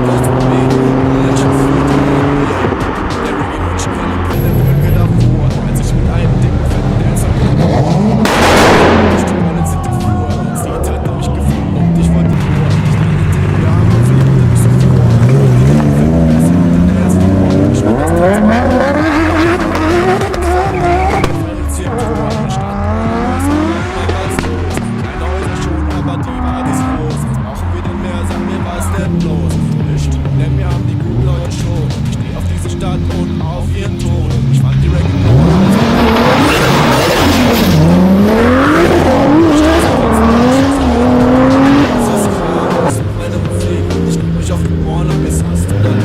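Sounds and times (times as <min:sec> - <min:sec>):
car engine revving hard: 0:00.0 - 0:46.0.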